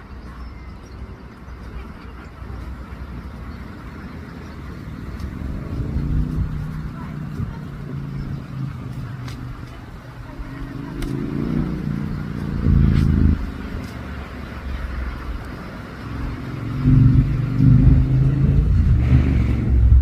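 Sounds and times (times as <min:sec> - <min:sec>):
vehicle engine running: 0:01.3 - 0:20.0.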